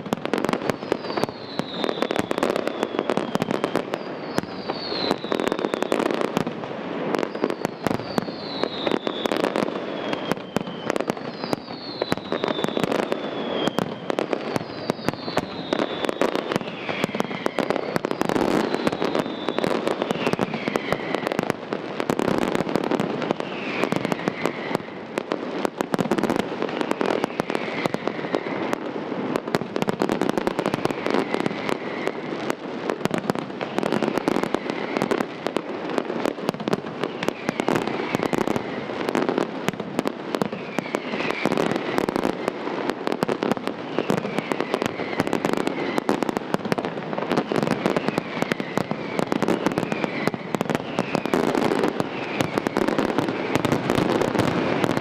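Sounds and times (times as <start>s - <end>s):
falling firework whistle: 0.0s - 55.0s
fireworks bursts and crackling: 0.0s - 55.0s.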